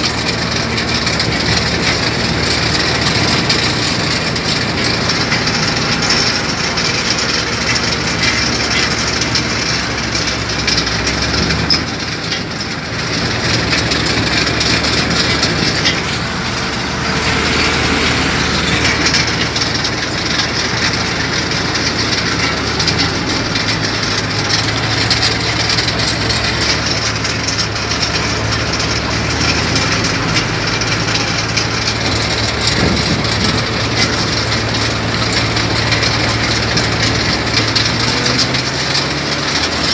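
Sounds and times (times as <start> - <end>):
heavy machinery engine rattling: 0.0 - 39.9.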